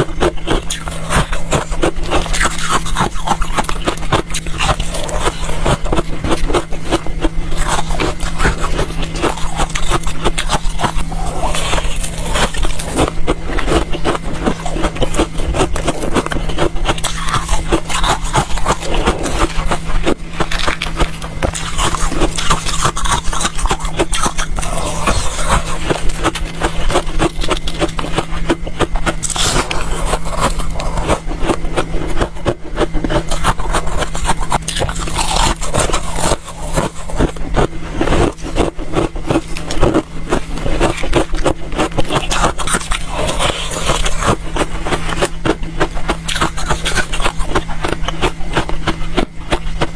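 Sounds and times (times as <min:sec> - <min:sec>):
crunching and chewing frost: 0:00.0 - 0:49.9
low hum: 0:00.0 - 0:49.9.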